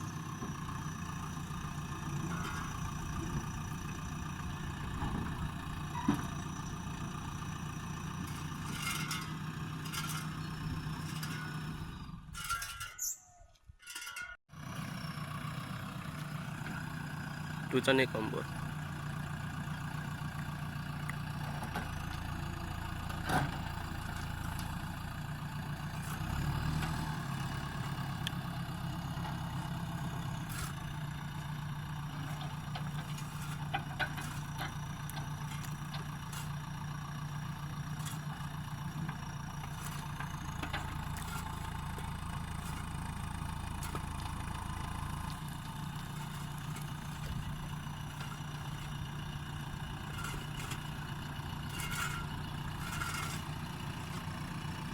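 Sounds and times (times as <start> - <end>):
diesel engine running: 0.0 - 12.4, 14.5 - 54.9.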